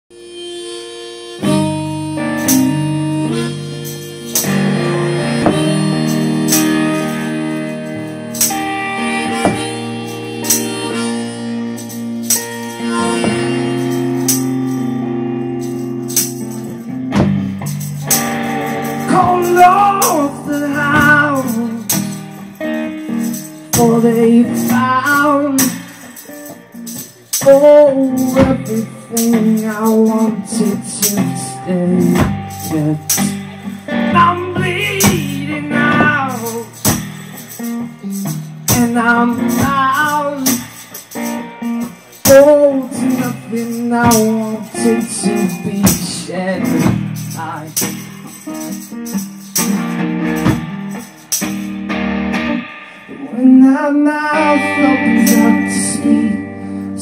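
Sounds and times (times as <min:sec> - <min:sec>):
strummed guitar chords: 0:00.1 - 0:57.0
wavering melody with vibrato: 0:00.2 - 0:57.0
tambourine struck and shaken: 0:02.4 - 0:53.6, 0:54.4 - 0:57.0.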